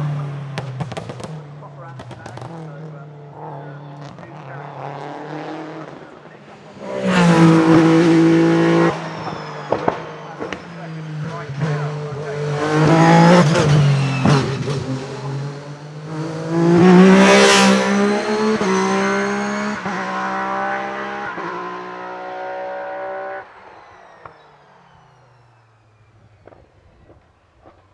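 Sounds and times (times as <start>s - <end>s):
race car accelerating with upshifts: 0.0s - 27.9s.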